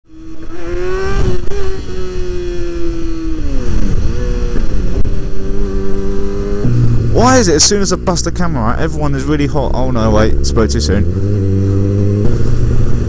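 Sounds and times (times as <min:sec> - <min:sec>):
motorcycle engine running: 0:00.0 - 0:13.0
wind rushing over microphone: 0:00.2 - 0:13.0.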